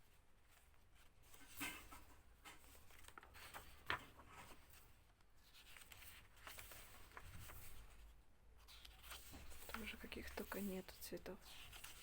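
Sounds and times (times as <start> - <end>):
pages turning and rustling: 0.1 - 12.0.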